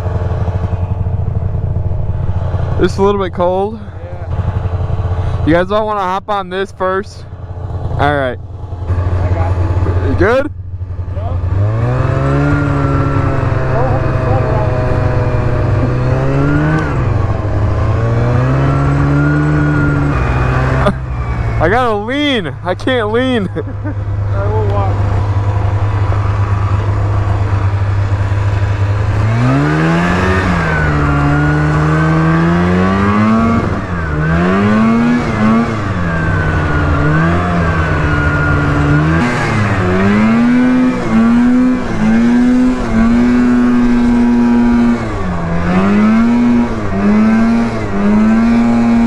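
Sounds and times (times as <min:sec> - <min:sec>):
snowmobile engine revving: 0:00.0 - 0:49.0.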